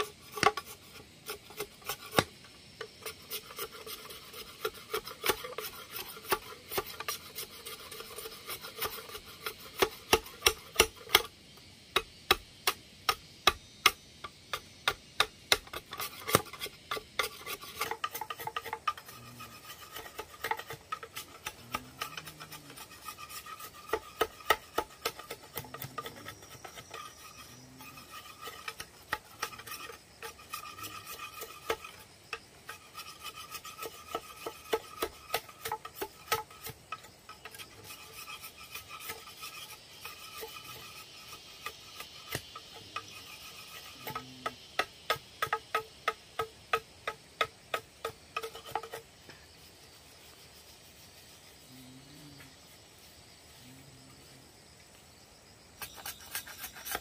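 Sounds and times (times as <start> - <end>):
blade scraping bamboo: 0.0 - 11.3, 12.0 - 49.6, 55.8 - 57.0.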